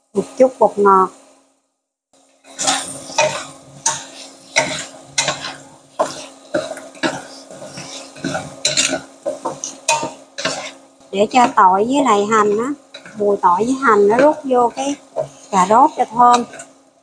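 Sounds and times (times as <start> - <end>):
spatula scraping frying pan: 2.3 - 17.0.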